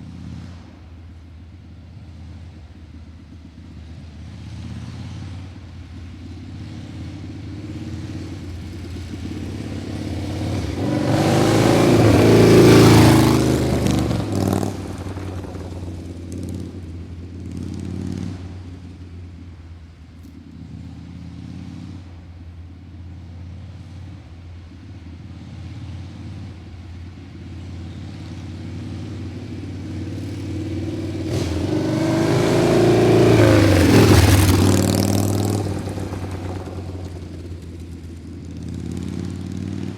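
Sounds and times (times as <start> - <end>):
motor vehicles driving past: 0.0 - 39.9.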